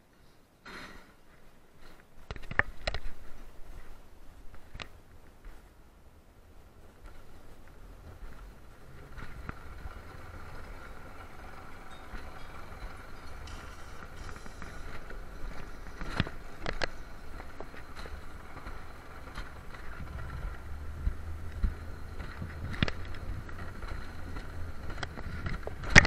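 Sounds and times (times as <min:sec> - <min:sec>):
faint wheel whine: 0:00.0 - 0:26.0
coaster sled rumbling on rails: 0:01.8 - 0:26.0.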